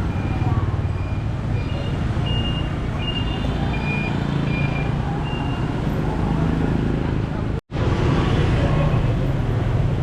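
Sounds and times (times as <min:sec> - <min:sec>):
traffic engine rumble: 0:00.0 - 0:10.0.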